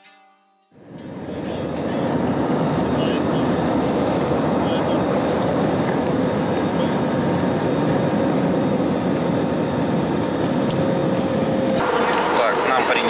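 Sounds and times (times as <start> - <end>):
airliner cabin engine rush: 0.8 - 13.0.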